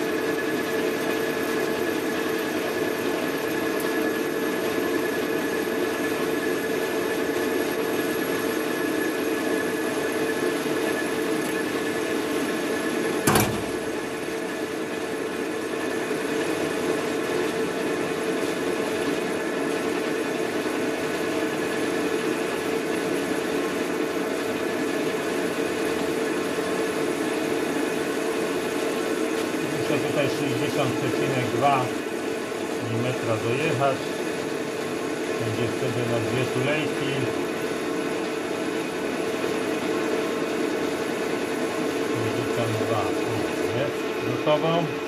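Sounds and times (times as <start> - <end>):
metal lathe humming and whining: 0.0 - 45.0.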